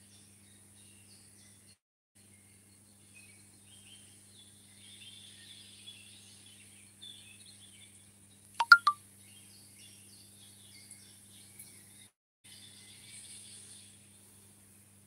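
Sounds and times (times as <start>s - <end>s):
faint songbirds chirping: 0.0s - 14.9s.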